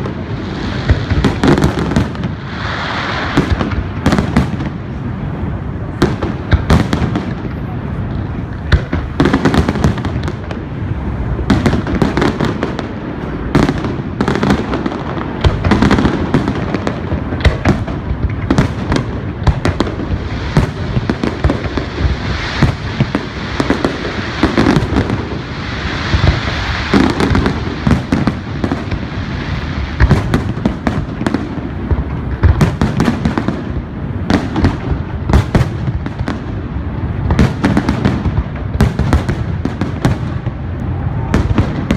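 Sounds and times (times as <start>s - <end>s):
fireworks bangs and booms: 0.0s - 41.9s
fireworks crackling: 0.0s - 41.9s.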